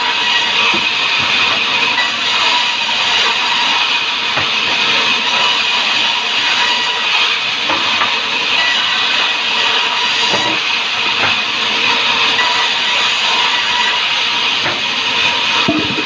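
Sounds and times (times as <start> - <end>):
band saw cutting logs: 0.0 - 16.0.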